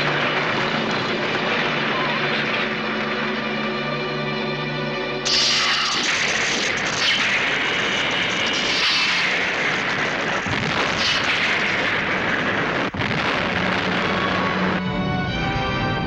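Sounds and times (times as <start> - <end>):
explosion roar: 0.0 - 3.7, 5.2 - 16.0.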